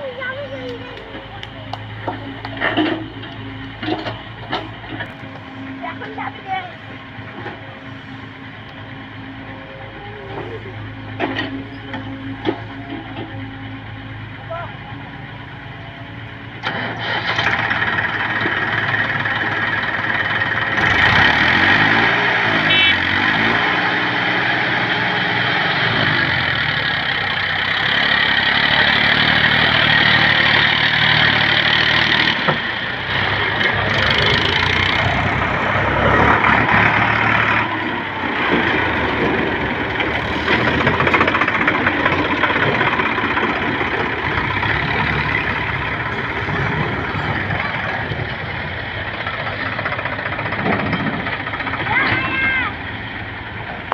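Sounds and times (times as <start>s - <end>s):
tractor engine revving: 0.0s - 53.9s.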